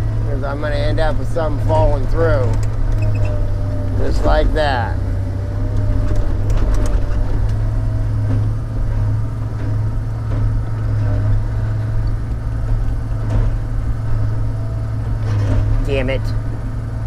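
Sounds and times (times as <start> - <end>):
engine running with low hum: 0.0 - 17.0.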